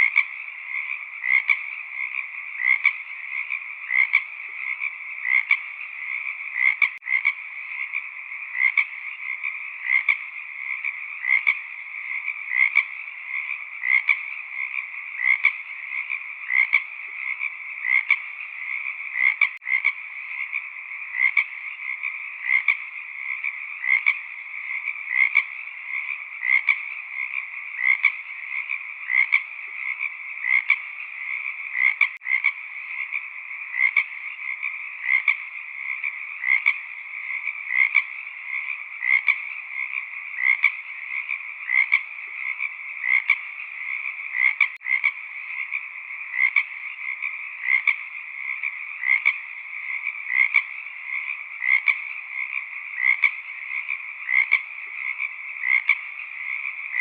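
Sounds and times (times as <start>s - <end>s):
frog chorus calling: 0.0s - 57.0s.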